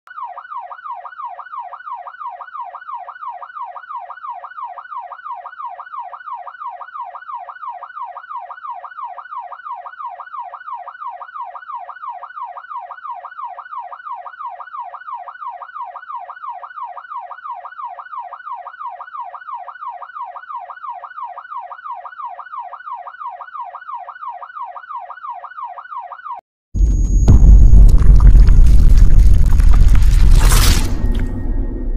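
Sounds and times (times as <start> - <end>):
electronic police siren yelp: 0.1 - 27.6.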